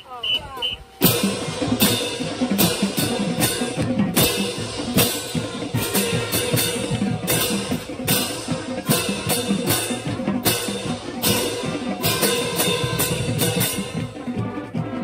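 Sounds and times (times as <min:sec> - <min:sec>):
marching band playing: 0:00.0 - 0:15.0
cymbals crashing: 0:01.0 - 0:14.2.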